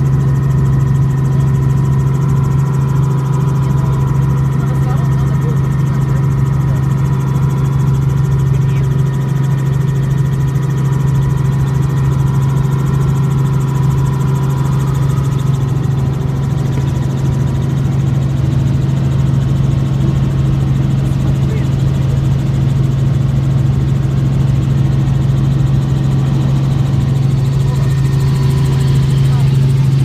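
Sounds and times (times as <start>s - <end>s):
helicopter engine and rotors droning: 0.0s - 30.0s
steady engine whine: 0.0s - 30.0s.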